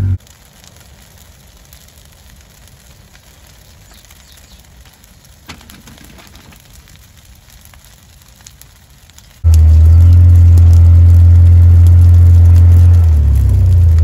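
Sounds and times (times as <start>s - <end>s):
brush pile fire crackling: 0.0s - 14.0s
low fire rumble: 0.0s - 14.0s
sharp pops from fire: 0.0s - 14.0s.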